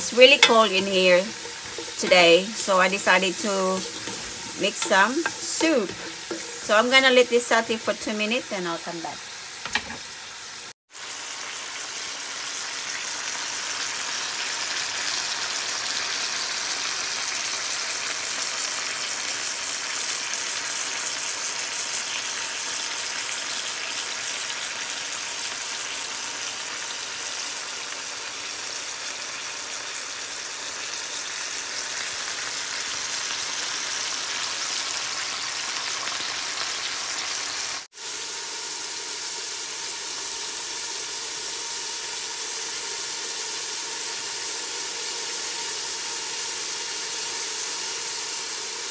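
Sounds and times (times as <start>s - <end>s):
vegetables sizzling in hot oil: 0.0s - 48.9s.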